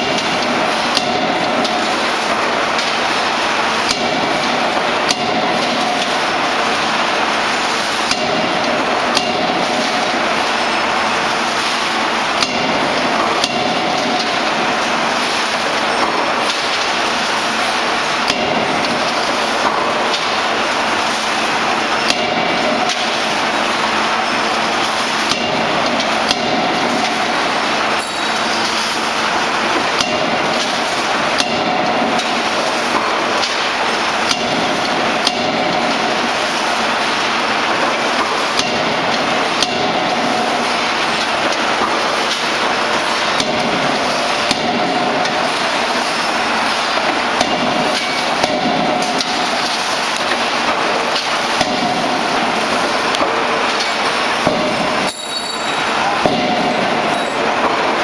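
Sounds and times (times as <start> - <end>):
constant loud machine noise: 0.0 - 58.0.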